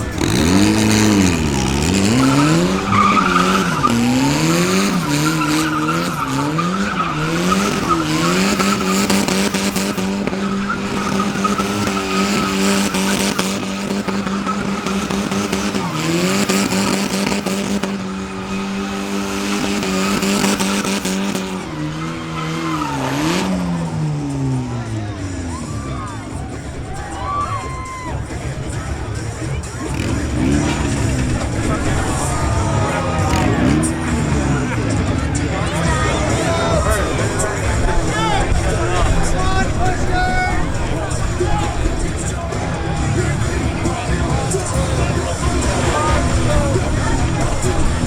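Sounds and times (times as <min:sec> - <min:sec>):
car engine revving: 0:00.0 - 0:48.0
tyres squealing: 0:00.0 - 0:48.0.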